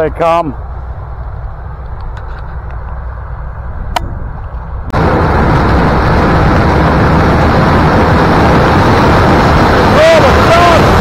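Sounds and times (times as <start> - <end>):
combine harvester roaring: 0.0 - 11.0
low rumble: 0.6 - 11.0.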